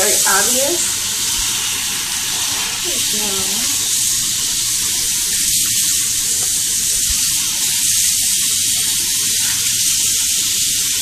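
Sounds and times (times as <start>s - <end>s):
faucet running: 0.0s - 11.0s.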